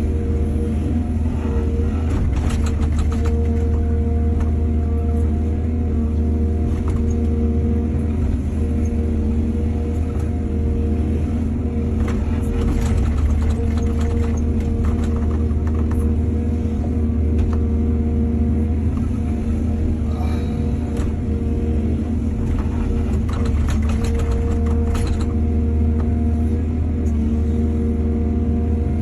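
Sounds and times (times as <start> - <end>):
diesel engine rumbling: 0.0 - 29.0.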